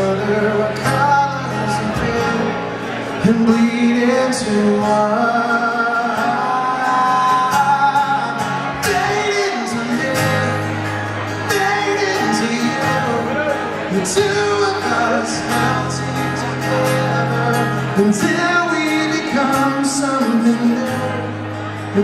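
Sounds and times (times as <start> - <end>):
man singing: 0.0 - 22.0
strummed acoustic guitar: 0.0 - 22.0.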